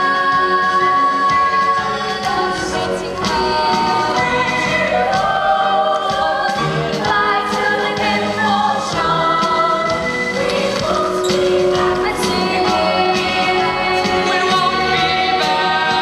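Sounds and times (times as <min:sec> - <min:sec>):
chorus singing in harmony: 0:00.0 - 0:16.0.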